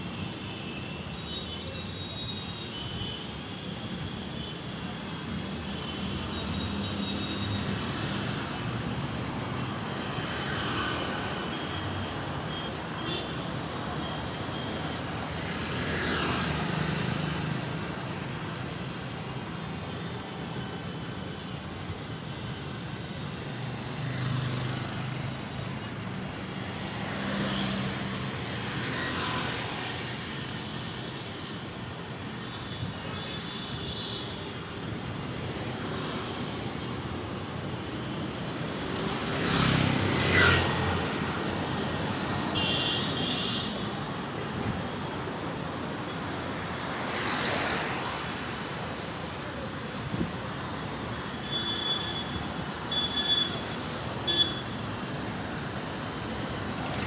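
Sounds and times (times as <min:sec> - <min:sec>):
traffic noise: 0:00.0 - 0:57.0
vehicles passing close by: 0:00.0 - 0:57.0.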